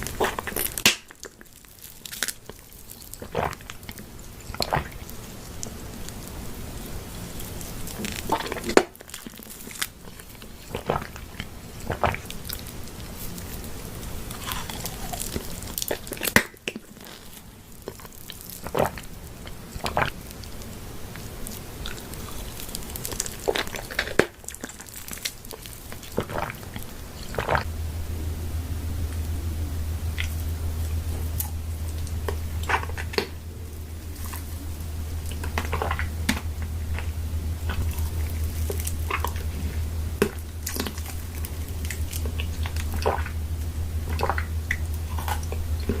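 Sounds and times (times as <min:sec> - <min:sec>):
person biting and chewing: 0:00.0 - 0:06.2, 0:07.2 - 0:27.8, 0:30.1 - 0:46.0.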